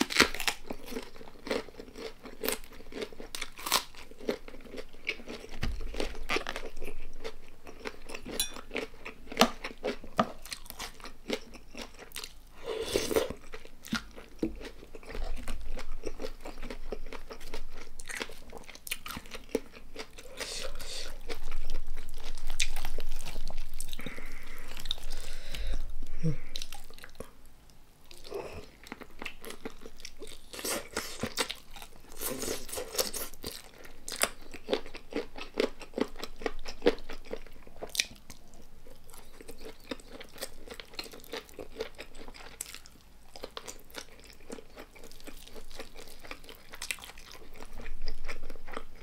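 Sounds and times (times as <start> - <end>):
chewing and crunching food: 0.0 - 27.4, 28.0 - 49.0.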